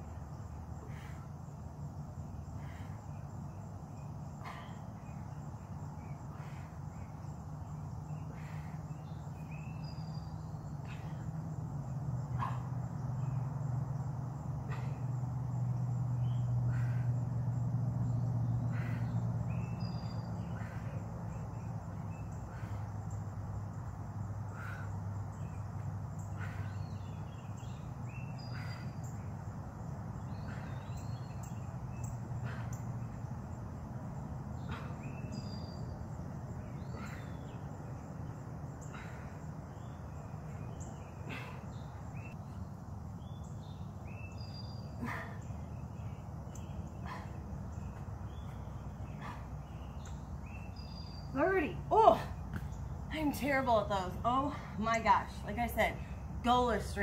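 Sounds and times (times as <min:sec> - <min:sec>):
birds chirping: 0:00.0 - 0:57.0
insects hissing: 0:00.0 - 0:57.0.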